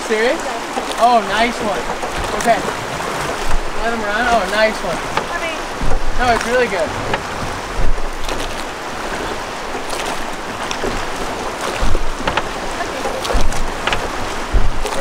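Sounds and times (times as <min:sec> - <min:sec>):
low thumps: 0:00.0 - 0:15.0
oar splashes: 0:00.0 - 0:15.0
river water rushing: 0:00.0 - 0:15.0.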